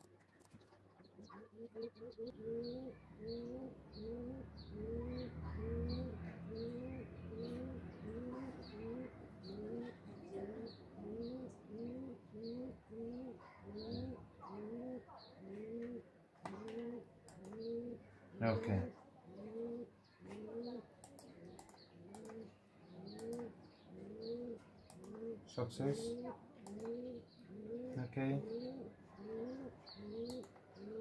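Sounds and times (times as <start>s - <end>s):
bird cooing: 1.2s - 31.0s.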